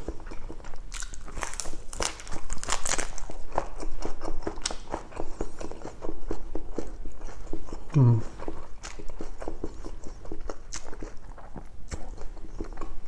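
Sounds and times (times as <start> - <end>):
lettuce crunching while chewed: 0.0 - 13.0.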